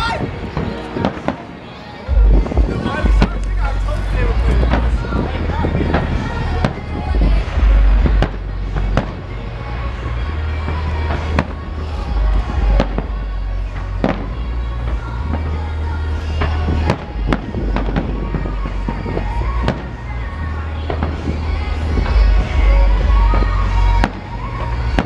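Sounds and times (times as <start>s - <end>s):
continuous low rumble: 2.1s - 25.0s
fireworks booming: 2.1s - 25.0s.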